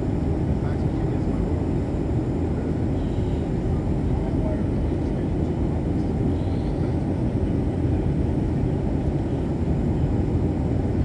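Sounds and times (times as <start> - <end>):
jet engine rumble: 0.0 - 11.0.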